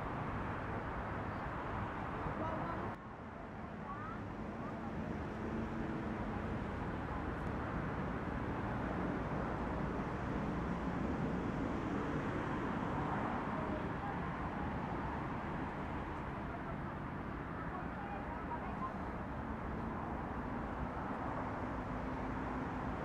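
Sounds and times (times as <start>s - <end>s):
distant road traffic rumble: 0.0s - 23.0s.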